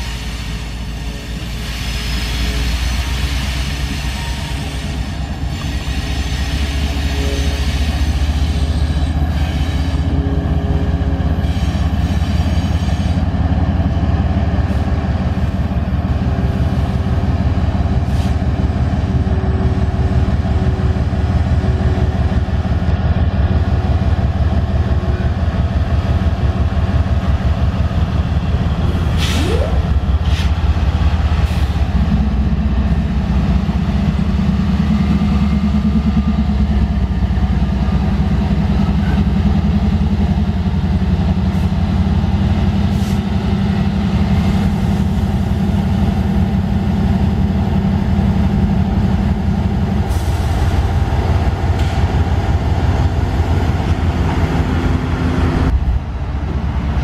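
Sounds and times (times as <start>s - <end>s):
locomotive engine rumbling: 0.0s - 57.0s.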